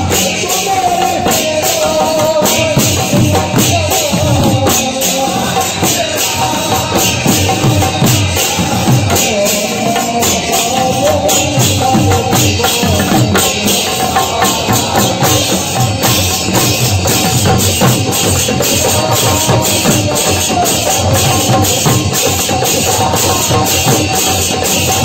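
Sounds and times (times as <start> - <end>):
drum beat: 0.0 - 25.0.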